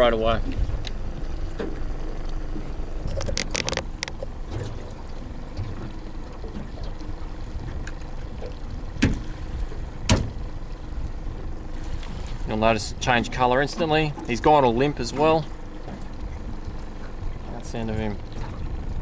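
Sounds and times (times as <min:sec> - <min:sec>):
boat and water noise: 0:00.0 - 0:19.0.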